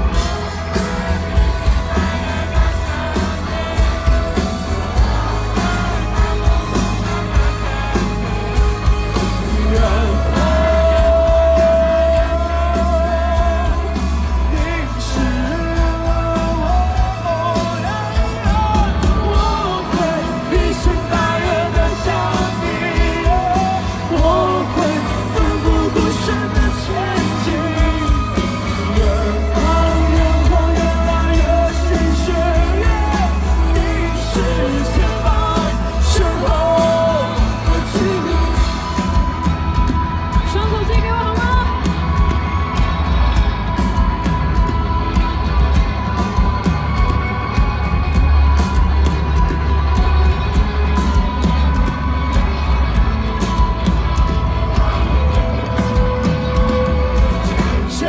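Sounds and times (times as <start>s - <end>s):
person singing: 0.0s - 52.4s
bass: 0.0s - 58.0s
drums: 0.0s - 58.0s.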